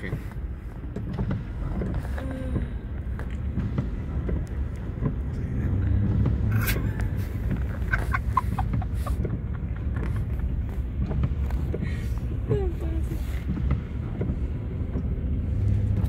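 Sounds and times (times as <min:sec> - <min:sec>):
car driving on wet road: 0:00.0 - 0:16.0.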